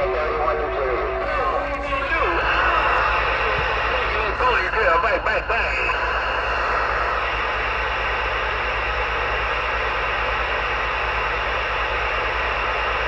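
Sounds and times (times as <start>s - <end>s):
low buzz: 0.0s - 13.0s
radio static hiss: 0.0s - 13.0s.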